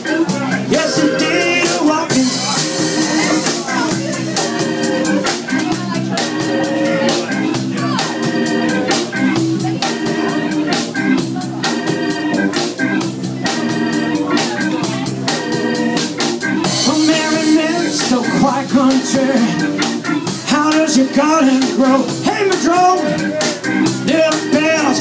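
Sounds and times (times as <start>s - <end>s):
bass guitar: 0.0s - 25.0s
drum kit: 0.0s - 25.0s
organ-toned electric keyboard: 0.0s - 25.0s.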